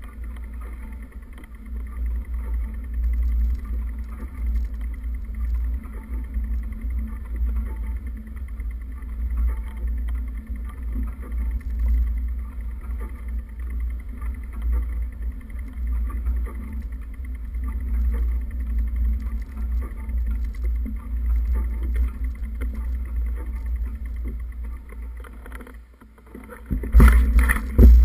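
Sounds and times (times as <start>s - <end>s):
light ticks: 0.0s - 27.8s
faint steady hum: 0.0s - 28.0s.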